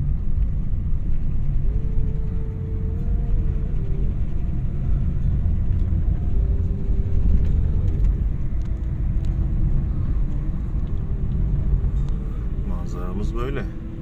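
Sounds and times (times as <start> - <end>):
car engine and tyres rumbling: 0.0 - 14.0
faint hum: 0.0 - 14.0.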